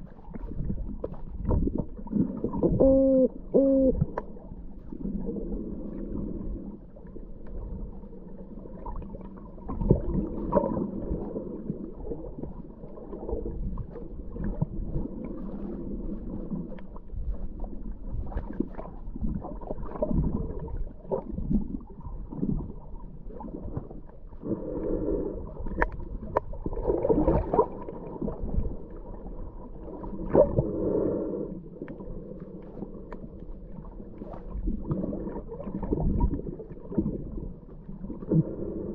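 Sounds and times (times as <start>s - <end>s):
muffled underwater gurgling: 0.0s - 38.9s.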